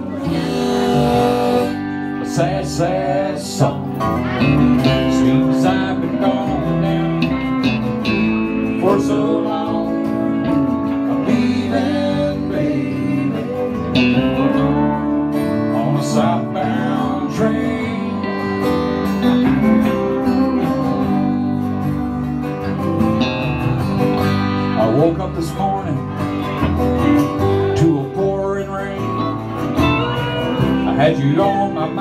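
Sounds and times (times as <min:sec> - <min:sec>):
electric guitar lead bending notes: 0:00.0 - 0:32.0
strummed acoustic guitar: 0:00.0 - 0:32.0.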